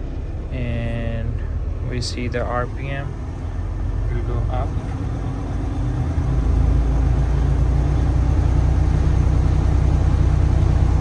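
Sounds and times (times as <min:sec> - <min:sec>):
diesel truck engine revving up: 0:00.0 - 0:11.0.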